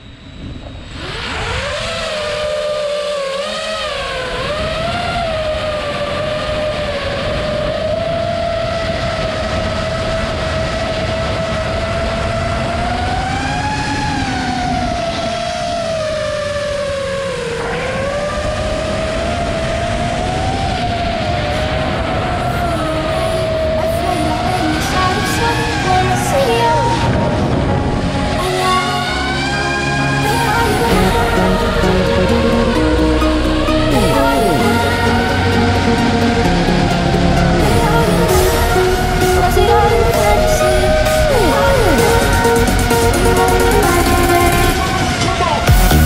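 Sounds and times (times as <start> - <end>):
quadcopter motors whining: 0.0 - 46.0.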